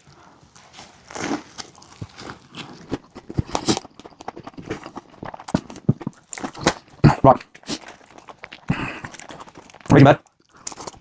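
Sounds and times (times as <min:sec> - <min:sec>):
crunching of crispy coating: 0:00.1 - 0:11.0
person biting and chewing: 0:01.1 - 0:11.0.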